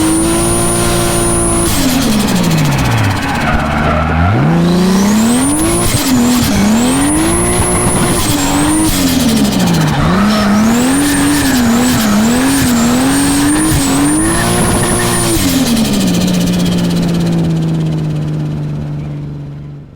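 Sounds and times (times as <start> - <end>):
tyre squeal: 0.0 - 16.1
car engine revving: 0.0 - 19.9.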